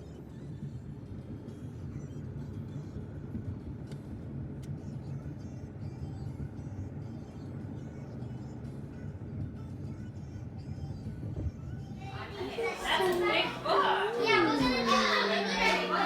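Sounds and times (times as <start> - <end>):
faint music playing: 0.0 - 16.0.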